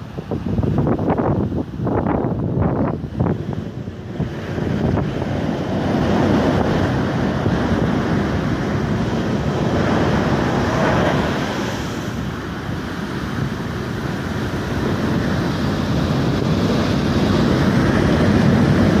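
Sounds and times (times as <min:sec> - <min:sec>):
wind buffeting microphone: 0:00.0 - 0:19.0
ocean surf breaking: 0:03.0 - 0:19.0.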